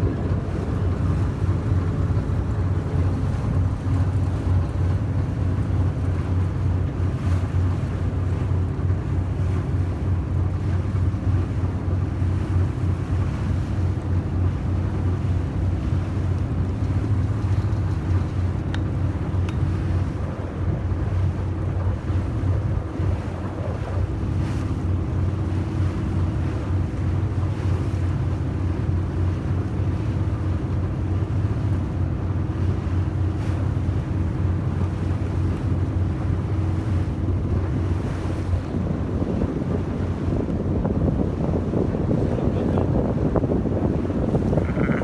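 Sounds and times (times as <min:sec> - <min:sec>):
boat engine droning: 0:00.0 - 0:45.0
water against hull: 0:00.0 - 0:45.0
wind buffeting microphone: 0:00.0 - 0:45.0.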